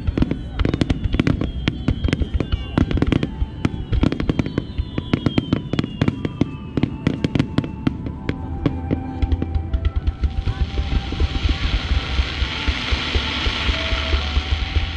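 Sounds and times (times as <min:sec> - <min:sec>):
fireworks bursting: 0:00.0 - 0:14.9
fireworks whistling downward: 0:00.0 - 0:14.9.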